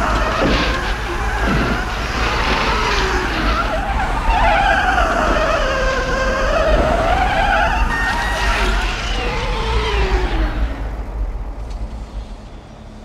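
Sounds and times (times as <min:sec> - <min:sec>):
engine rumble: 0:00.0 - 0:13.0
tyres squealing and skidding: 0:00.0 - 0:13.0.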